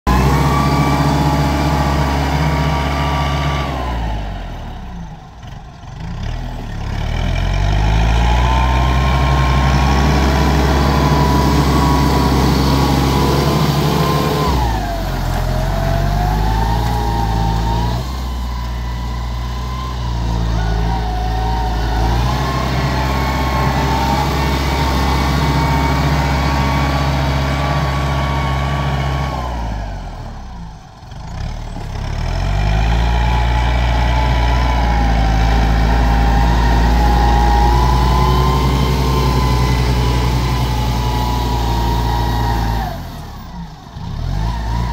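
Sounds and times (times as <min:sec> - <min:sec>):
diesel tractor engine running hard: 0:00.0 - 0:44.9.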